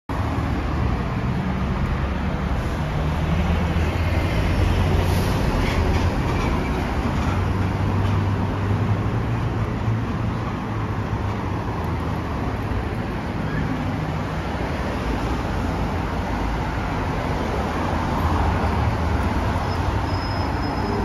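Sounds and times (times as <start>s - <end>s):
road noise: 0.1s - 21.0s.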